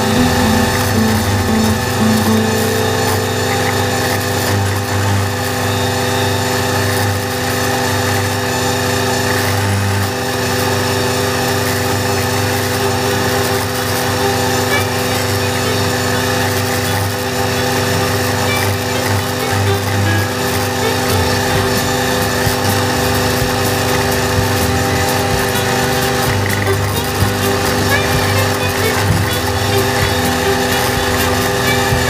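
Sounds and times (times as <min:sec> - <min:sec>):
tractor diesel engine: 0:00.0 - 0:04.4, 0:10.3 - 0:32.0
flail mower rushing: 0:00.0 - 0:32.0.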